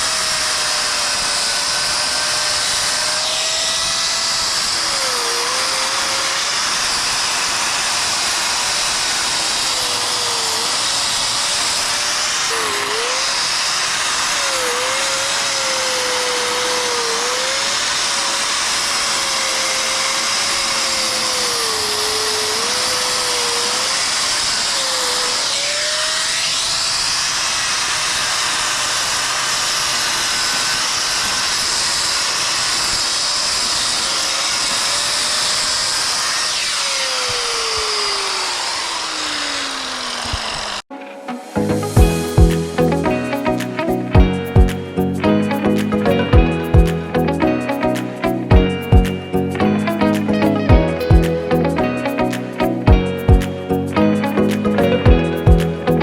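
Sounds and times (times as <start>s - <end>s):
angle grinder grinding mortar: 0.0s - 56.0s.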